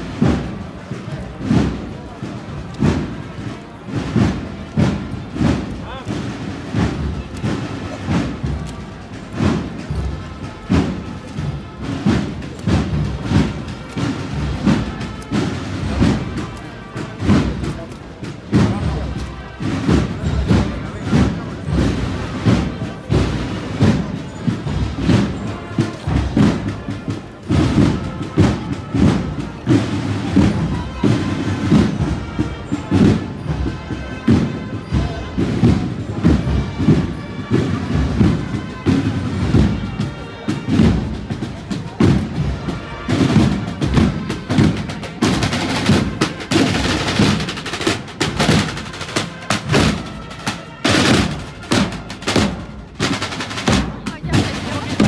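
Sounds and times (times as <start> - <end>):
marching band drums: 0.0 - 55.0.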